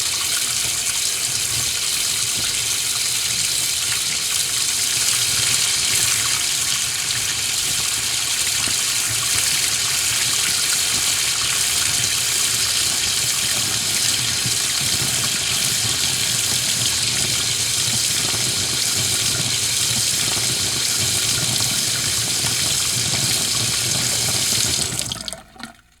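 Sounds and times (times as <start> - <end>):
water running from tap into sink: 0.0 - 26.0.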